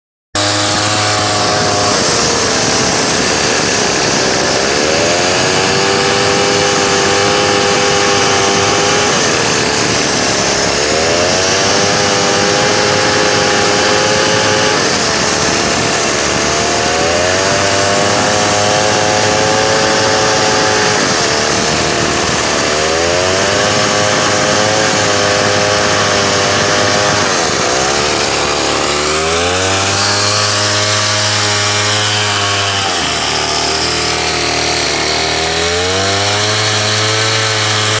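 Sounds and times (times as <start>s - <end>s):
chainsaw cutting through log: 0.4s - 38.0s.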